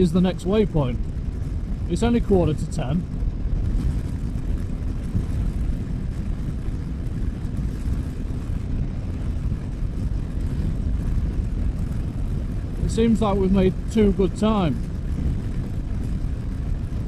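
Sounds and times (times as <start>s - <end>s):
motorcycle engine cruising: 0.0s - 17.0s
wind rush on microphone: 0.0s - 17.0s.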